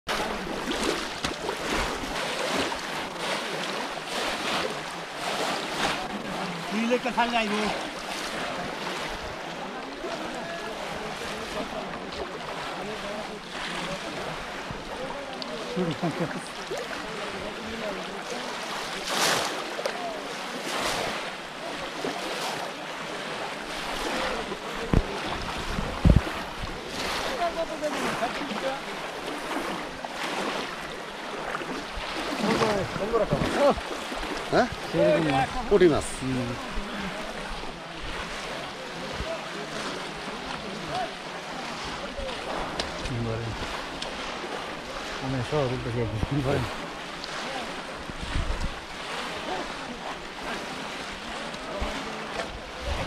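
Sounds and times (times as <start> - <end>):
water splashing and sloshing: 0.0 - 53.0.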